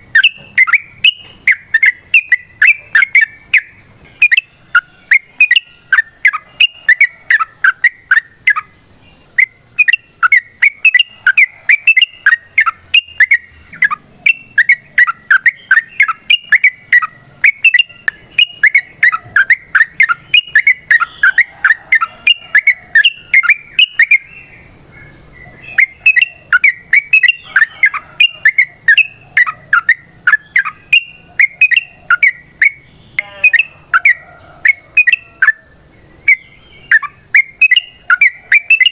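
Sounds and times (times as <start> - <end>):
bird chattering calls: 0.0 - 35.6, 36.2 - 38.9.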